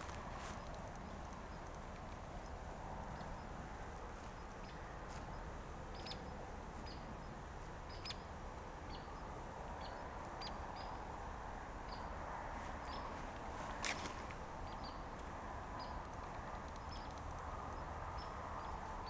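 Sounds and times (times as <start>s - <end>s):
outdoor background hum: 0.0s - 19.0s
small birds chirping: 0.0s - 19.0s.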